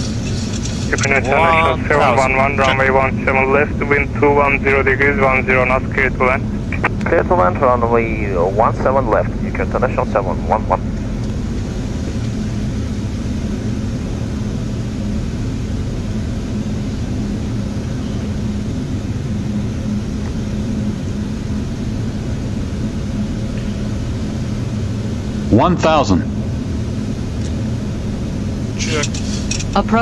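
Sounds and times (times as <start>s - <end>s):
airflow and engine rumble: 0.0s - 30.0s
constant low hum: 0.0s - 30.0s.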